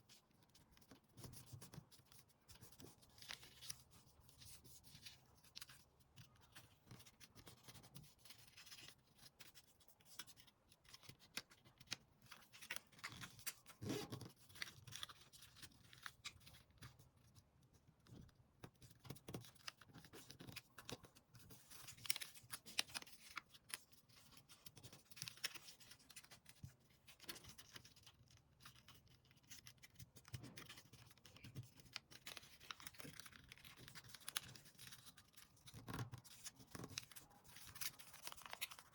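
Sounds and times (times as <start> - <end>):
paper rustling and crackling: 0.8 - 16.9, 18.9 - 38.9.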